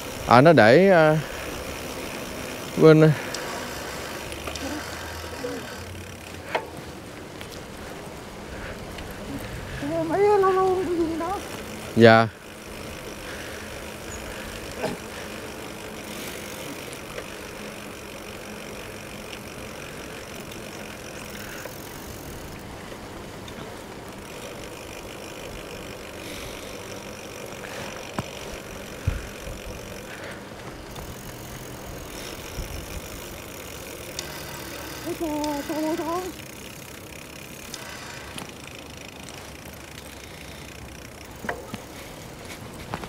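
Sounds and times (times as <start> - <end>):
bike tyres rolling: 0.0 - 43.0.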